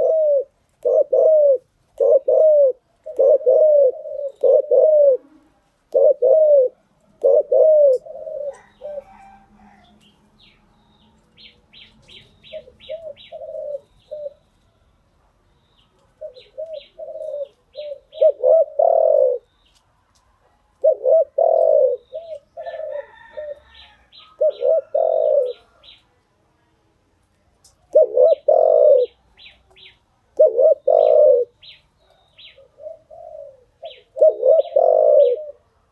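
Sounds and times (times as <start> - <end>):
dove cooing: 0.0 - 10.1, 11.4 - 14.6, 16.0 - 19.5, 20.4 - 26.0, 27.8 - 35.9.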